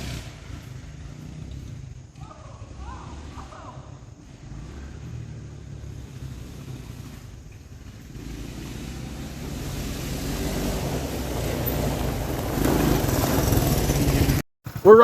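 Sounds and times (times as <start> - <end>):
small off-road engines running: 0.0 - 15.0.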